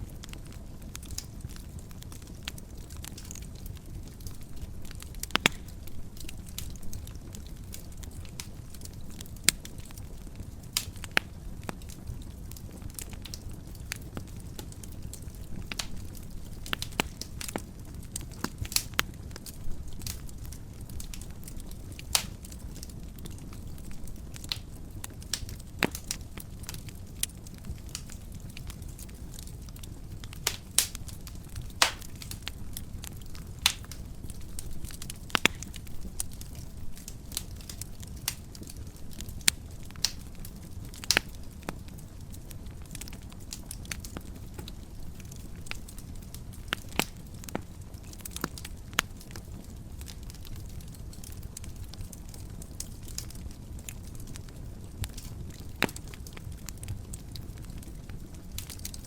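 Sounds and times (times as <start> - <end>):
low rumble of burning: 0.0 - 59.0
wood fire crackling: 0.0 - 59.0.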